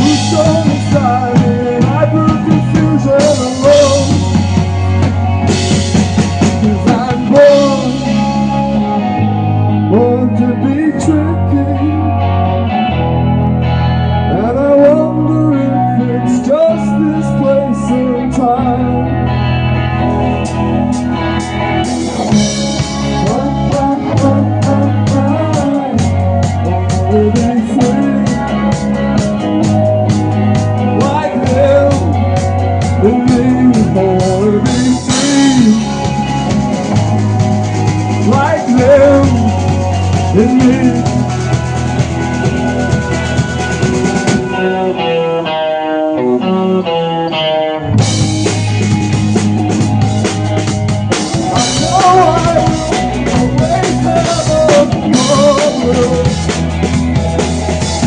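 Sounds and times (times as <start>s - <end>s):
drum kit: 0.0s - 14.2s, 19.2s - 45.1s, 47.9s - 58.0s
electric guitar lead: 0.0s - 58.0s
rock band playing: 0.0s - 58.0s.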